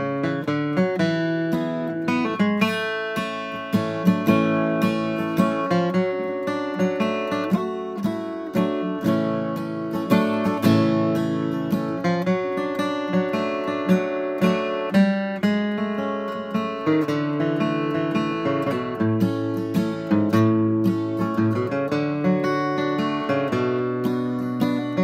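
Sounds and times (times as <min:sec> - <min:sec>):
acoustic guitar flatpicking: 0:00.0 - 0:25.0.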